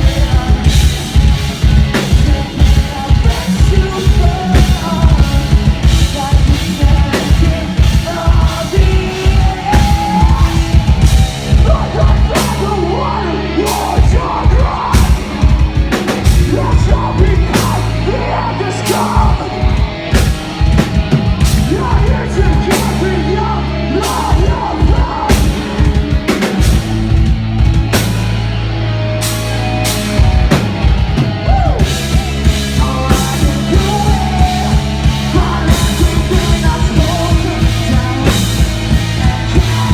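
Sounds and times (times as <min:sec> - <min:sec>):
sung and shouted vocals: 0:00.0 - 0:26.8, 0:29.6 - 0:39.9
heavy bass: 0:00.0 - 0:39.9
pounding drum kit: 0:00.0 - 0:39.9.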